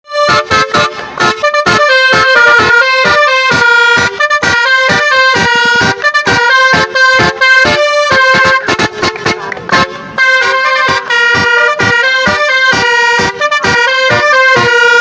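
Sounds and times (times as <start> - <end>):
musical bus horn playing a tune: 0.0 - 15.0.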